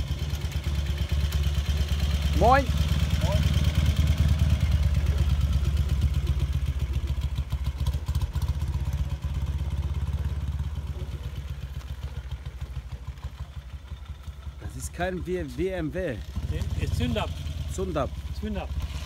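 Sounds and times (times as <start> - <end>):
motorcycle engine throbbing: 0.0 - 19.0.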